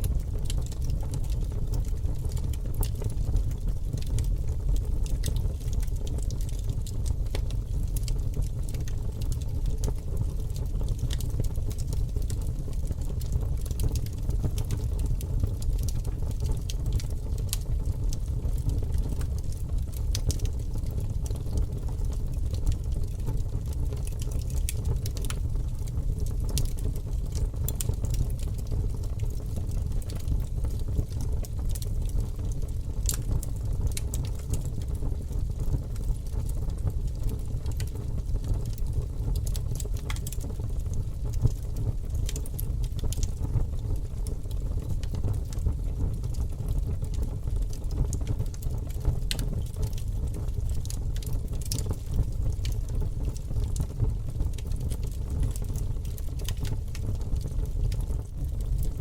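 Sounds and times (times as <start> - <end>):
fire crackling and popping: 0.0 - 59.0
fire rumbling: 0.0 - 59.0.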